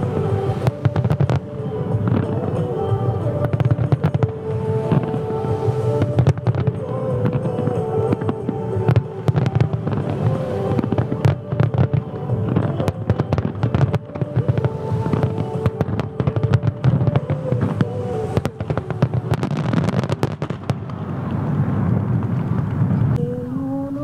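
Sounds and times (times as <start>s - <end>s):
music playing: 0.0s - 22.5s
fireworks bangs and crackles: 0.0s - 23.2s.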